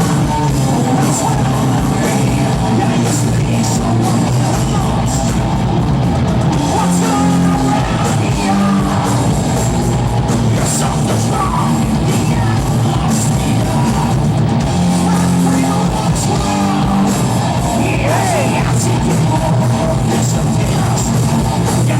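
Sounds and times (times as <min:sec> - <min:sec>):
singer yelling vocals: 0:00.0 - 0:05.4, 0:06.5 - 0:21.9
rock band playing: 0:00.0 - 0:21.9.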